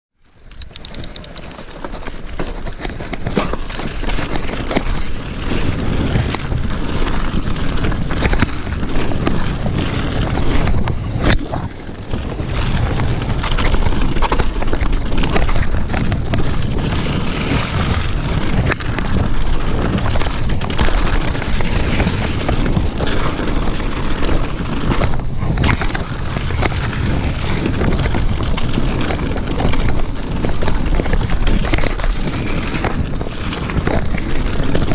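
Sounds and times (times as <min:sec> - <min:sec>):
bike rattling on rocky trail: 0:00.2 - 0:34.9
wind buffeting microphone: 0:00.6 - 0:34.9.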